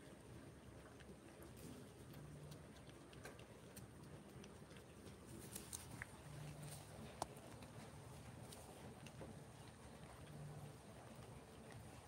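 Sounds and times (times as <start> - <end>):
cat licking food from spoon: 0.0 - 12.0.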